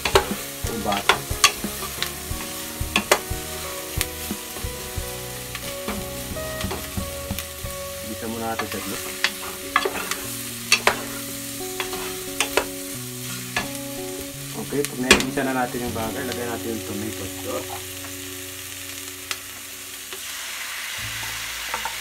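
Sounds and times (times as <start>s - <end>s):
meat and onions sizzling: 0.0s - 22.0s.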